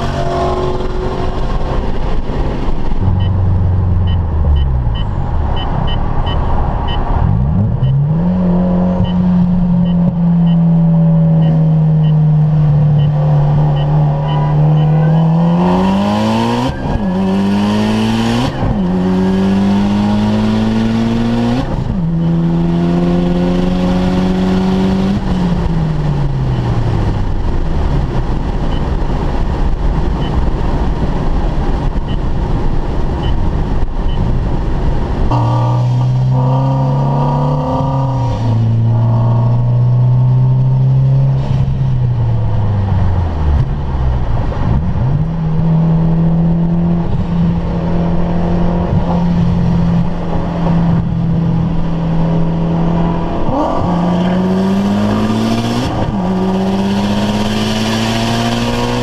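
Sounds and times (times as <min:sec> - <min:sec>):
car engine revving: 0:00.0 - 0:29.8, 0:34.9 - 0:59.0
road and wind noise: 0:00.0 - 0:59.0.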